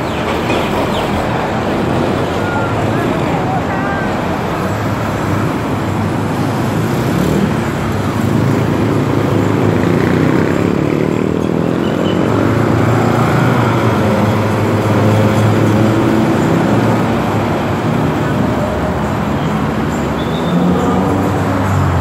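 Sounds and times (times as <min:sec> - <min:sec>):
vehicles passing close by: 0:00.0 - 0:22.0.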